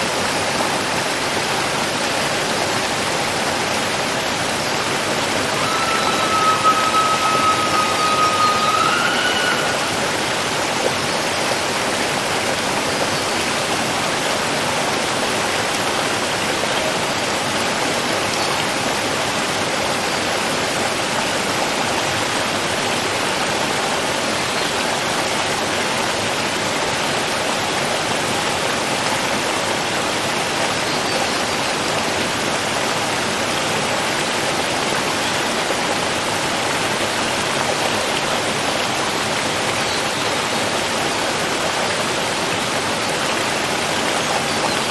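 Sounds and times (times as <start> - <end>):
running water rushing: 0.0 - 44.9.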